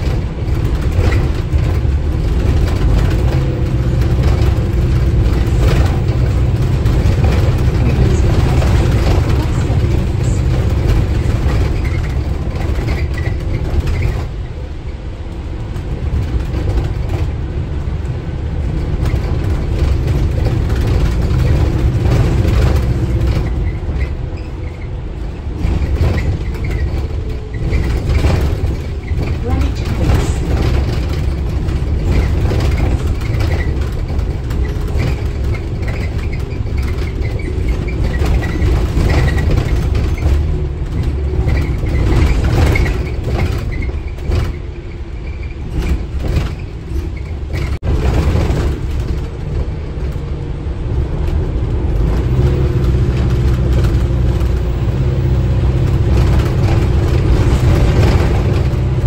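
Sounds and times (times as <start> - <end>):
bus drivetrain and road rumble: 0.0 - 59.0
low engine hum: 0.0 - 59.0.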